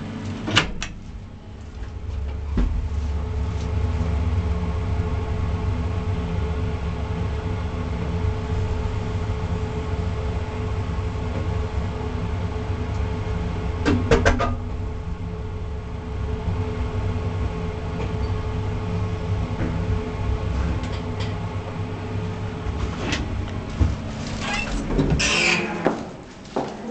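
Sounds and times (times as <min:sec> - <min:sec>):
elevator car rumble and hum: 0:00.0 - 0:26.9.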